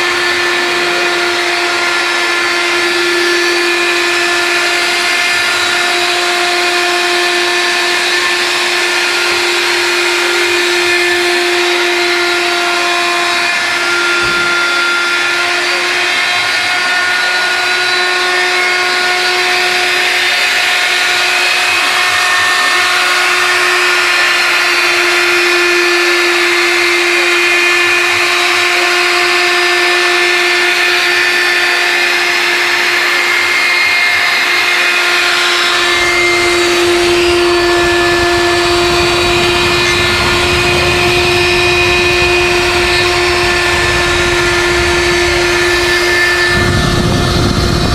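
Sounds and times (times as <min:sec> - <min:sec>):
hissing motor noise: 0:00.0 - 0:47.9
router spindle motor whine: 0:00.0 - 0:47.9.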